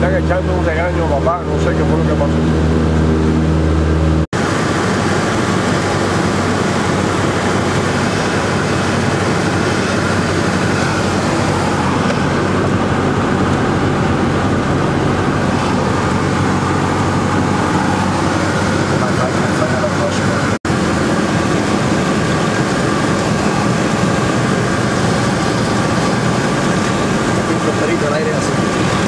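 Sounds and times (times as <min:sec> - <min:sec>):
propeller plane engine drone: 0:00.0 - 0:29.0
airflow rushing: 0:00.8 - 0:29.0.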